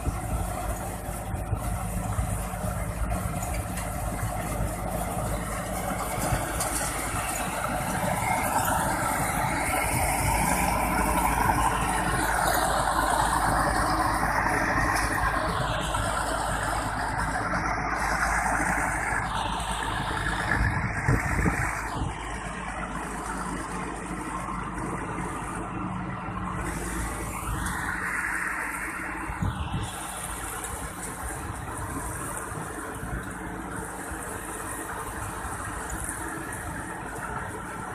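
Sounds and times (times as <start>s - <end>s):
combine harvester running: 0.0s - 37.9s.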